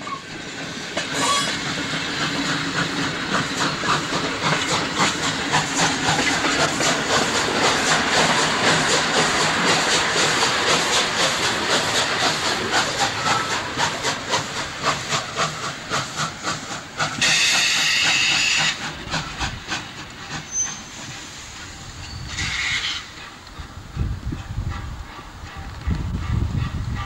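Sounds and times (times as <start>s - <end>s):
steam locomotive chuffing: 0.0s - 27.0s
steam blast: 1.0s - 23.2s.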